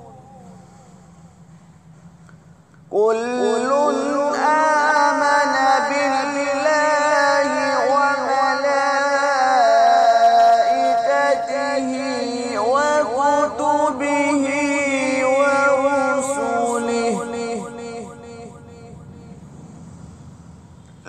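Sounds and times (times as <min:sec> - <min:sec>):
man reciting melodically: 0:00.0 - 0:01.5, 0:02.9 - 0:19.6.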